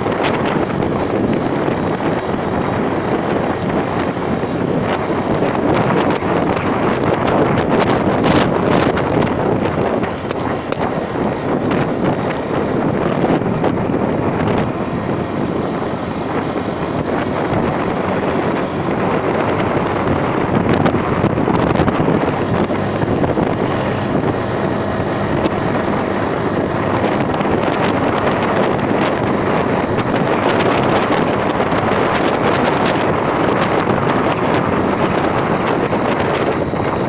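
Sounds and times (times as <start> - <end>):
vehicle engine running: 0.0 - 37.0
wind buffeting microphone: 0.0 - 37.0.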